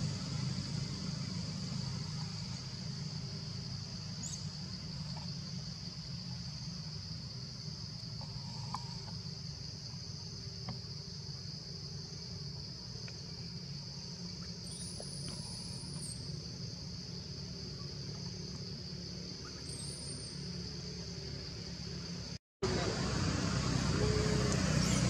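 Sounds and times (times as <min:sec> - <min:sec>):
chorus of insects: 0:00.0 - 0:25.0.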